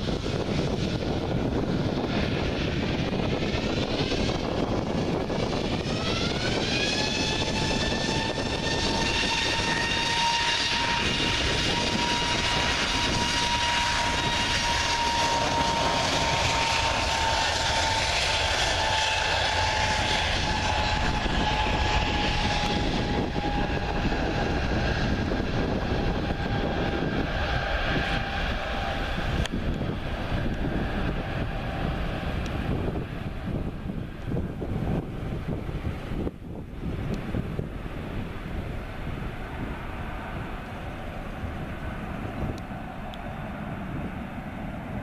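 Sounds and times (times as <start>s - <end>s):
jet engine rush with fan whine: 0.0s - 45.0s.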